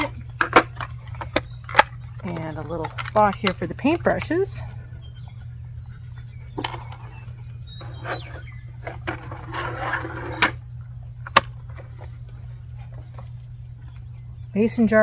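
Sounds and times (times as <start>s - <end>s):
rubbing and rustling: 0.0s - 10.7s, 11.4s - 14.4s
steady low hum: 0.0s - 15.0s.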